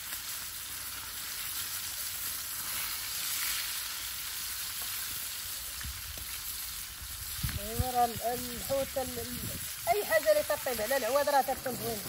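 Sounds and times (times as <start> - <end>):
fire crackling: 0.0 - 12.0
fish sizzling: 0.0 - 12.0.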